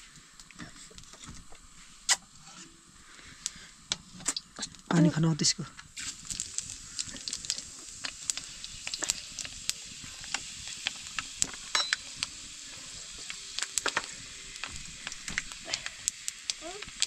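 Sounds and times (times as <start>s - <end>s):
pork sizzling in a pan: 0.0s - 17.0s.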